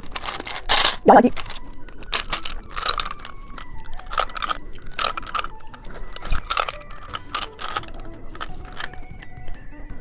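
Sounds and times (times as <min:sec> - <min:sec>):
crunchy candy being chewed: 0:00.0 - 0:09.4.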